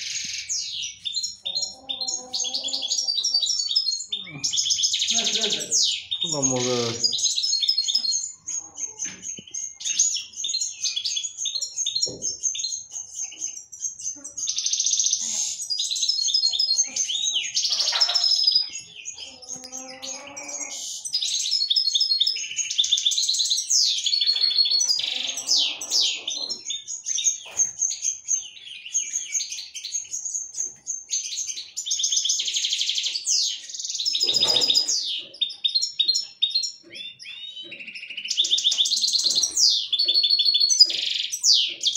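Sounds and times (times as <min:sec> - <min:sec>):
finches twittering and trilling: 0:00.0 - 0:41.9.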